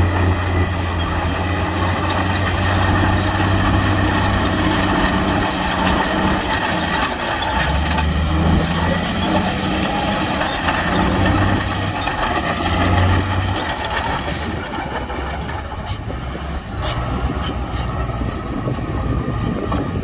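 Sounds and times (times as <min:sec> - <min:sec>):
diesel machinery engine: 0:00.0 - 0:20.0.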